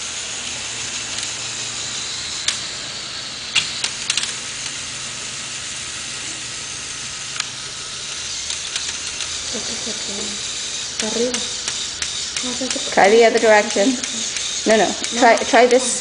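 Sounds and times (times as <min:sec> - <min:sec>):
toy electric motors whirring: 0:00.0 - 0:16.0.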